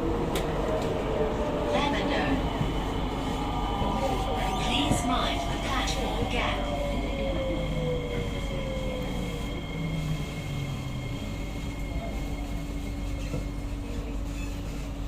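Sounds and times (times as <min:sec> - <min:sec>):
train interior low rumble: 0:00.0 - 0:15.0.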